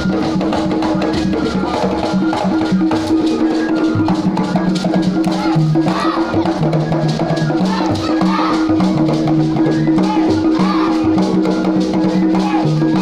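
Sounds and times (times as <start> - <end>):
drums: 0.0 - 13.0
voices singing: 0.0 - 13.0.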